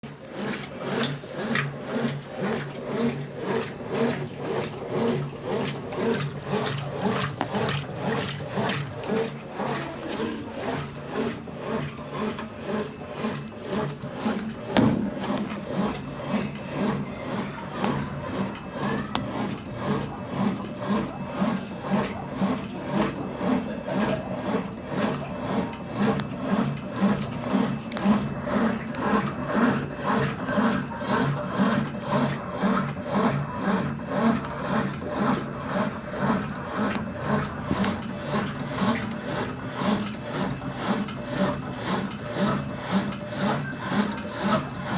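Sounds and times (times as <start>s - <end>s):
washing machine agitating: 0.0s - 44.9s.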